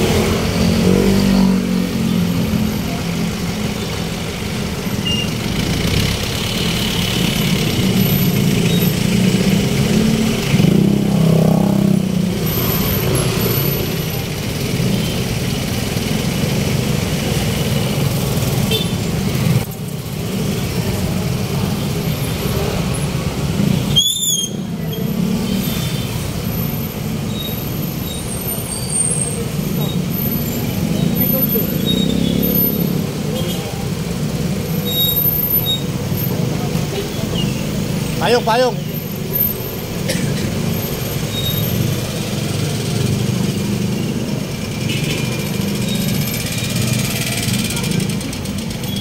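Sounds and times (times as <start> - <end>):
rumble of passing vehicles: 0.0 - 49.0.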